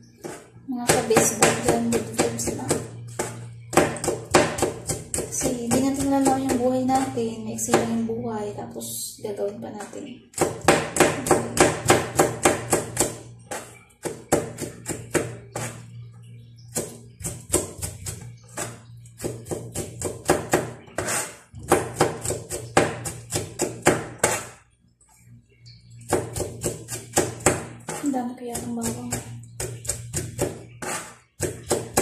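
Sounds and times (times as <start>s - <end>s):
knife chopping garlic: 0.2s - 8.0s, 9.8s - 15.9s, 16.7s - 24.6s, 26.1s - 32.0s.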